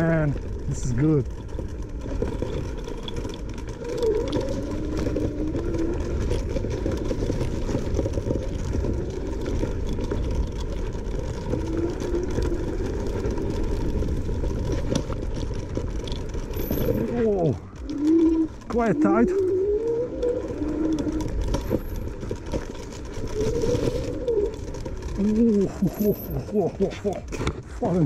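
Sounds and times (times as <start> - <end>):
low rumble of riding: 0.0 - 28.0
wind: 0.0 - 28.0.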